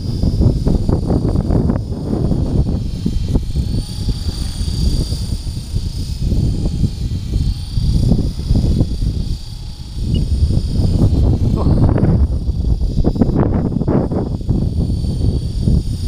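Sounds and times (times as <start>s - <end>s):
rc helicopter rotor whine: 0.0s - 16.0s
wind rumbling on microphone: 0.0s - 16.0s.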